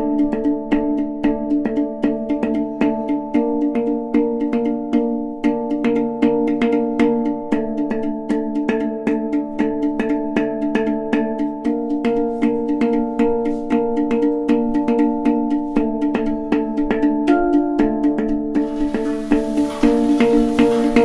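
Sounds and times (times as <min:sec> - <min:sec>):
light percussive beat: 0:00.0 - 0:21.0.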